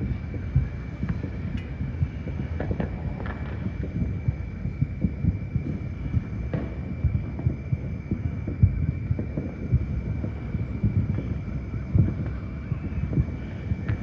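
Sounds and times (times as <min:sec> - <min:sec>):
distant fireworks thumps: 0:00.0 - 0:14.0.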